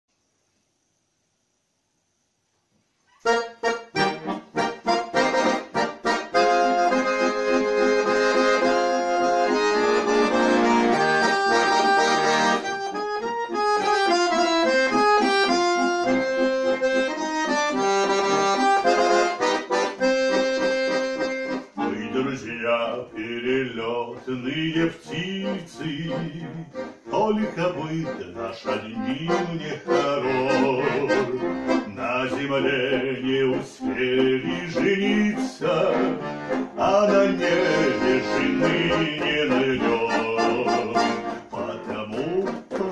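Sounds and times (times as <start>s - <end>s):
button accordion playing: 3.2s - 42.9s.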